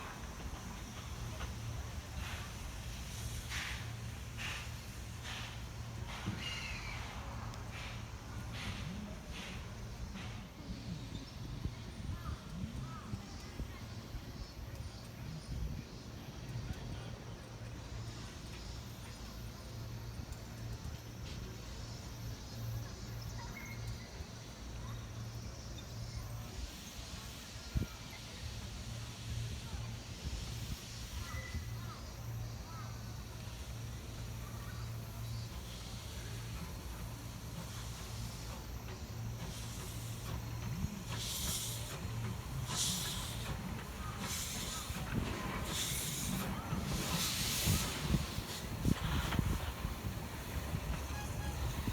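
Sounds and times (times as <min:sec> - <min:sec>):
steam locomotive chuffing: 0:00.0 - 0:51.9.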